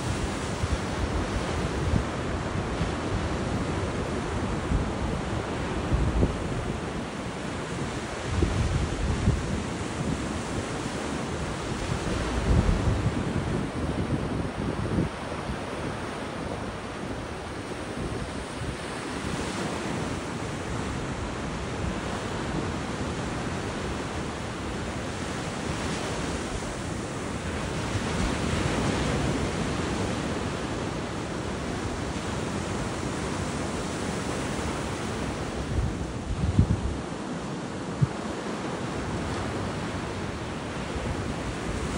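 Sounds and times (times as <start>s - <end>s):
wind rumbling on microphone: 0.0s - 41.9s.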